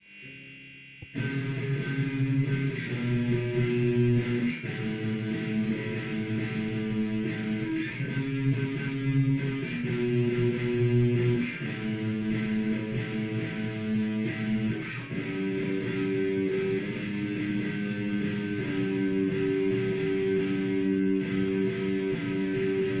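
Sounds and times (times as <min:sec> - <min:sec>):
guitar playing chords: 0:00.0 - 0:23.0.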